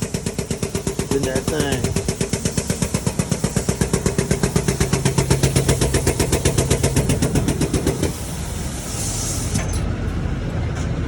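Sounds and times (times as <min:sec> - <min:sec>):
air jack mechanical clatter: 0:00.0 - 0:09.9.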